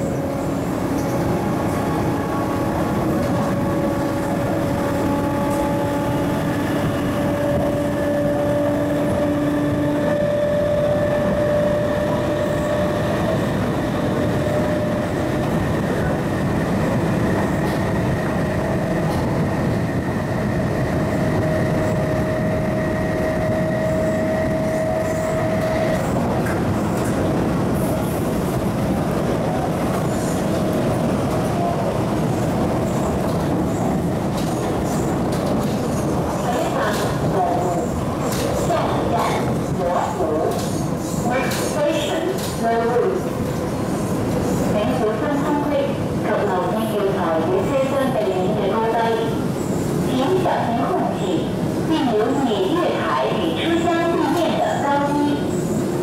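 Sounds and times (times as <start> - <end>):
train traction whine: 0.0 - 56.0
train wheels rumbling on track: 0.0 - 56.0.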